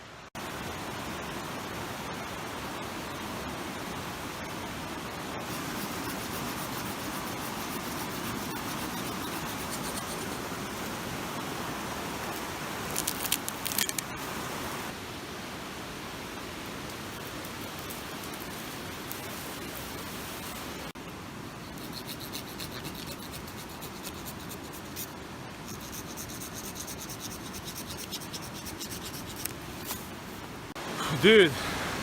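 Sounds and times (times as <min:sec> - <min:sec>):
rushing water: 0:00.0 - 0:32.0.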